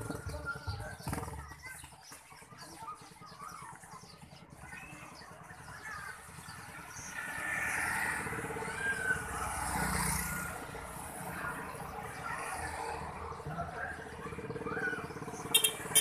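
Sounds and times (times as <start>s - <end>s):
motorcycles passing: 0.0s - 16.0s.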